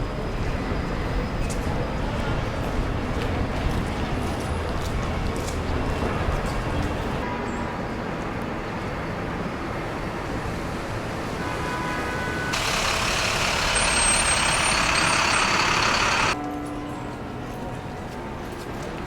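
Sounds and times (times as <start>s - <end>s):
city traffic rumbling: 0.0s - 16.4s.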